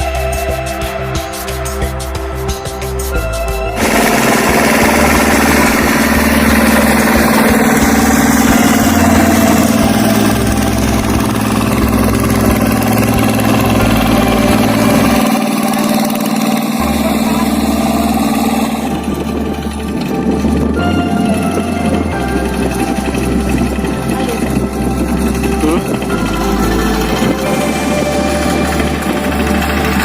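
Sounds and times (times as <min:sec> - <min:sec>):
engine humming steadily: 0:00.0 - 0:30.0.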